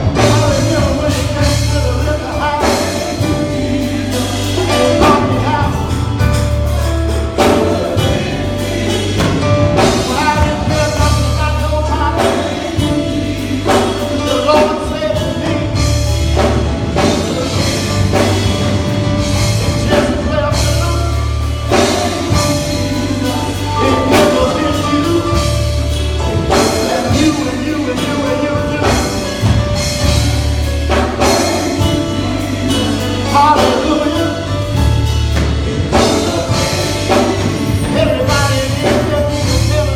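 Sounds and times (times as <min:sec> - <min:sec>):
gospel singing with band: 0:00.0 - 0:39.9
steady drum beat: 0:00.0 - 0:39.9
sustained bass line: 0:00.0 - 0:39.9.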